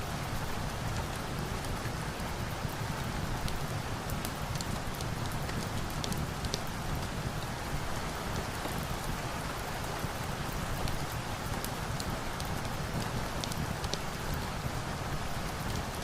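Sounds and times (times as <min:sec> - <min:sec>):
steady rain falling: 0:00.0 - 0:16.0
ticks of raindrops landing: 0:00.1 - 0:16.0.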